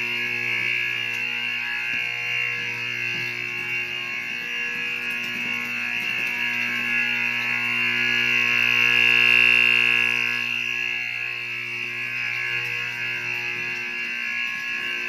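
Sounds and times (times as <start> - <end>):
fire alarm horn buzzing: 0.0 - 15.0.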